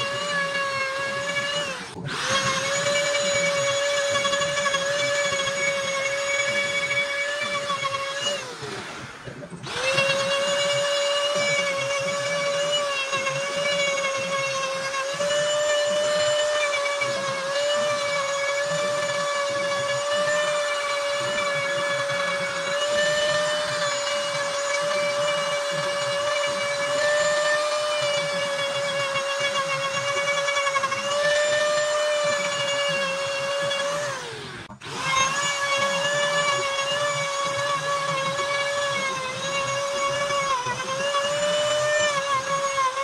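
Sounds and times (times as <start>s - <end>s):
power carving tool whining: 0.0s - 43.0s.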